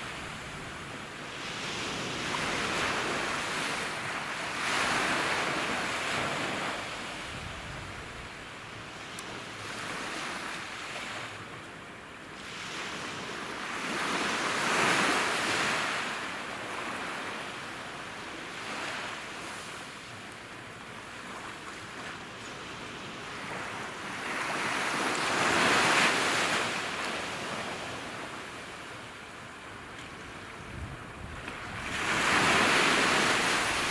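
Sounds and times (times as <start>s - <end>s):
small waves breaking on sand: 0.0s - 11.4s, 12.4s - 20.1s, 20.9s - 33.9s.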